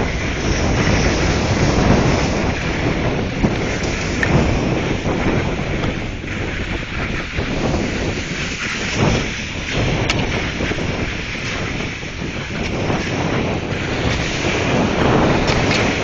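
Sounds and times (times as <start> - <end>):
skis hissing on snow: 0.0 - 16.0
wind buffeting microphone: 0.0 - 16.0.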